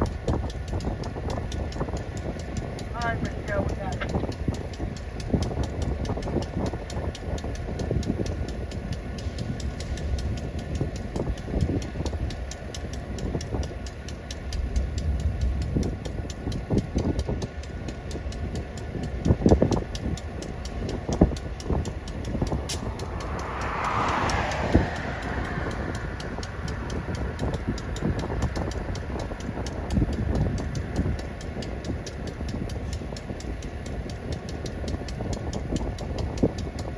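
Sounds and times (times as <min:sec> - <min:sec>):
train rumbling: 0:00.0 - 0:36.9.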